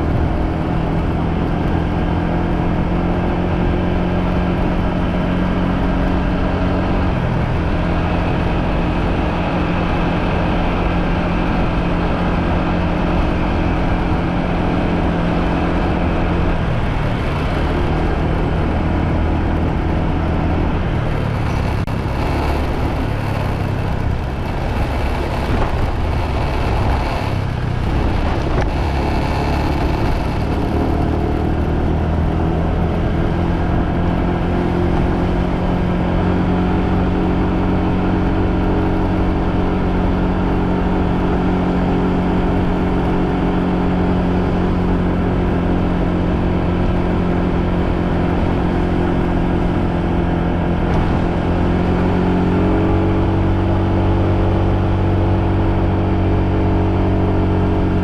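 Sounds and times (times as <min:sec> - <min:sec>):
motorbike engine running: 0:00.0 - 0:56.1.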